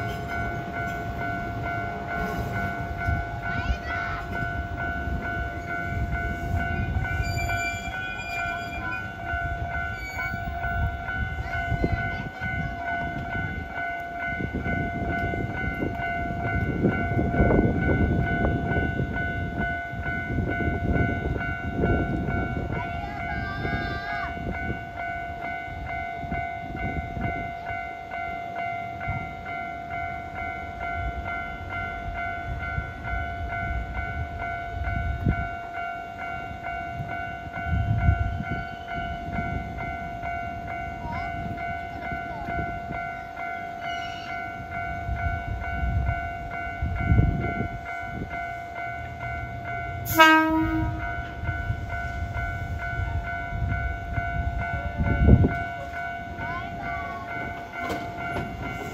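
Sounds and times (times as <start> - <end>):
level-crossing alarm ringing: 0.0 - 23.8, 24.4 - 58.9
train rumbling over crossing: 0.0 - 58.9.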